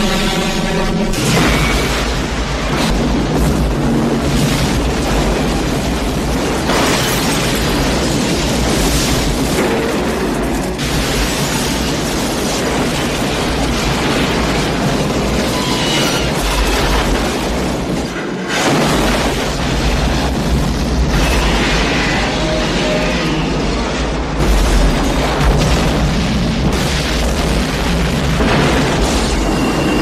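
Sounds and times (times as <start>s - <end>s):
train crash explosions and rumble: 0.0s - 30.0s.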